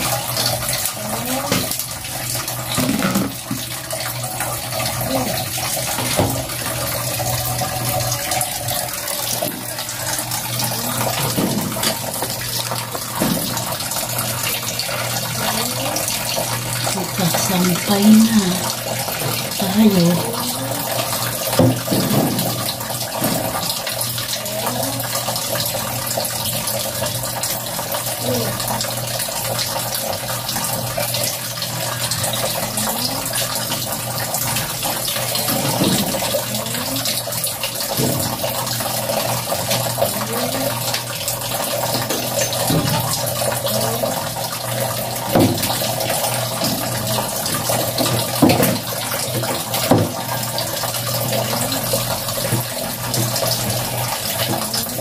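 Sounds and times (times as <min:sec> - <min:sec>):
tap water running: 0:00.0 - 0:55.0.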